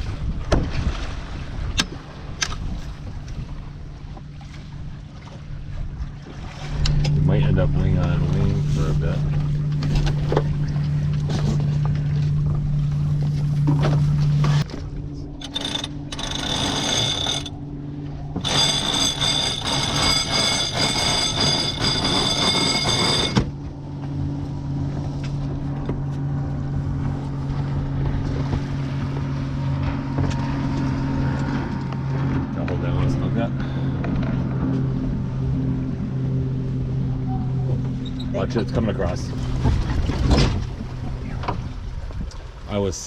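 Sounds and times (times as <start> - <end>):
boat motor running: 0.0 - 42.7
water noise: 0.0 - 43.0
wind: 0.0 - 43.0.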